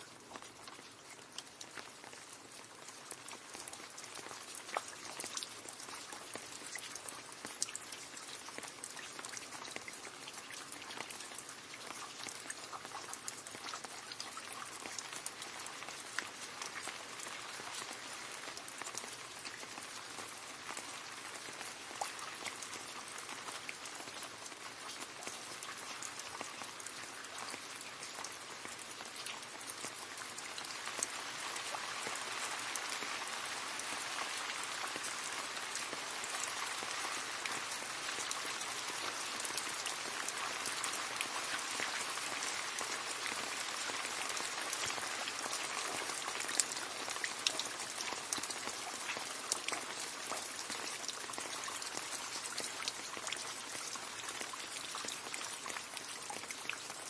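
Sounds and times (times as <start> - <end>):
rain splashing into puddle: 0.0 - 57.0.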